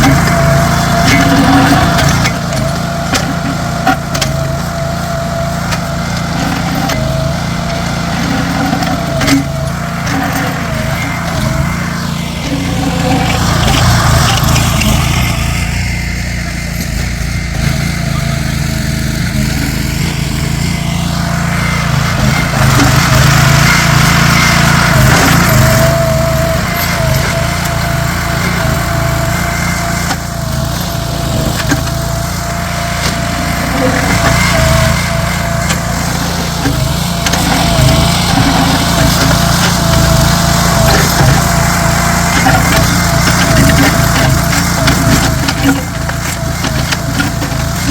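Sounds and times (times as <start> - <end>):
small engine running: 0.0 - 47.9.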